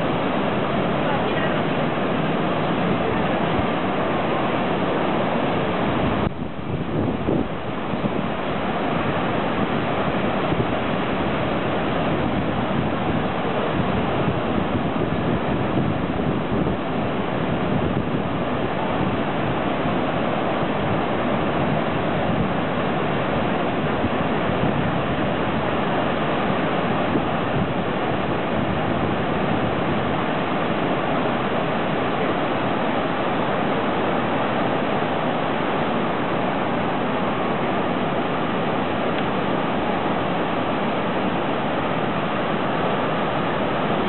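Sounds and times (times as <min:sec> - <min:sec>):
surf breaking on shore: 0:00.0 - 0:44.0.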